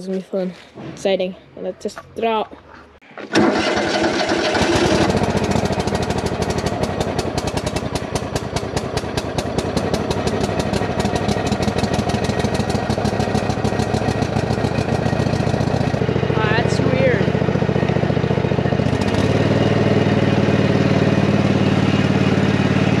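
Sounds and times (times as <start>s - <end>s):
lawn mower engine running: 3.2s - 23.0s.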